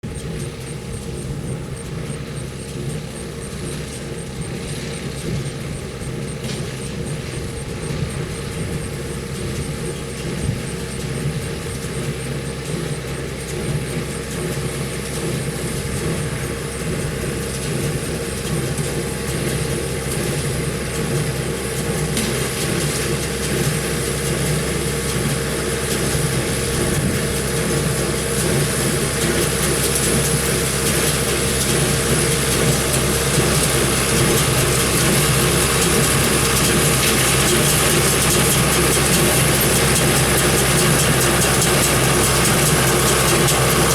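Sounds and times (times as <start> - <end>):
tractor and baler droning: 0.0 - 43.9.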